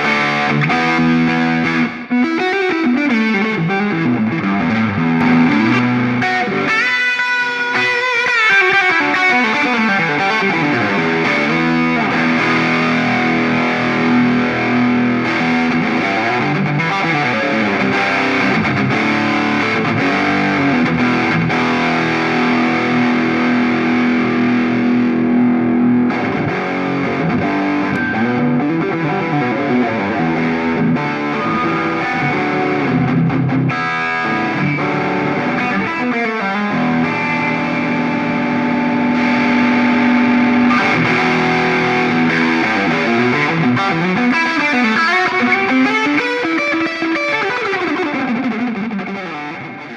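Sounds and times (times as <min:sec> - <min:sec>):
distorted electric guitar: 0:00.0 - 0:49.9.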